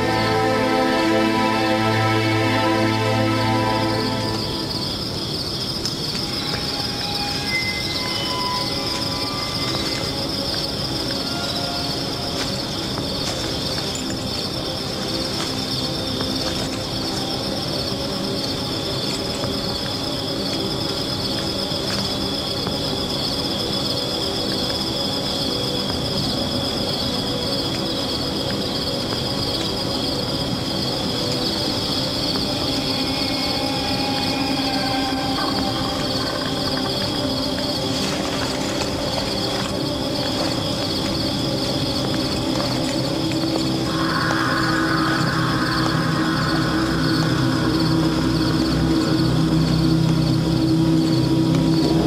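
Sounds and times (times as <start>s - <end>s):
crickets chirping: 0.0s - 52.0s
low drone: 0.0s - 52.0s.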